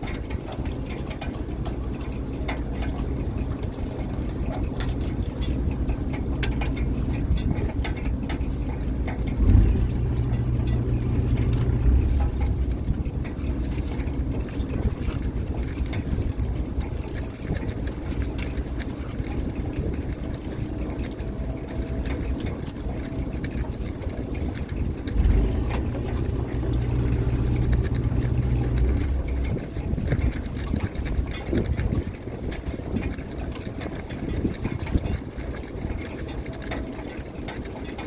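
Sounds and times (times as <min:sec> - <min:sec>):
boat engine droning: 0:00.0 - 0:38.0
light clicks and knocks: 0:00.0 - 0:38.0.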